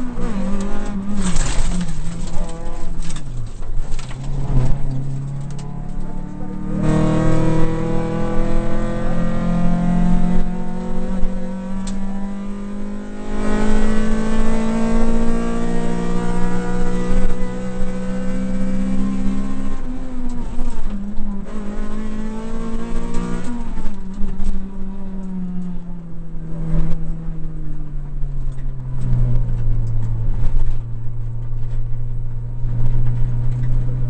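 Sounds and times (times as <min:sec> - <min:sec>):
rally car engine accelerating: 0:00.0 - 0:34.0.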